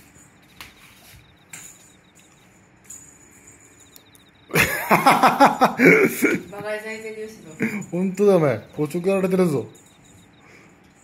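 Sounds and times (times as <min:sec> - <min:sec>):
high insect-like trill: 0:00.0 - 0:11.0.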